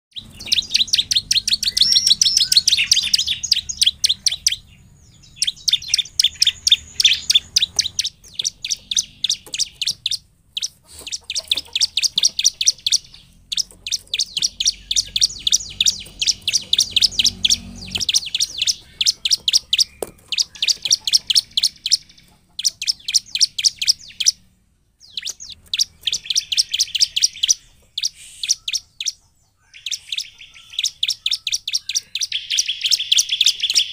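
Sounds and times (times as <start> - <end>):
bird singing rapid chirps: 0.1 - 33.9.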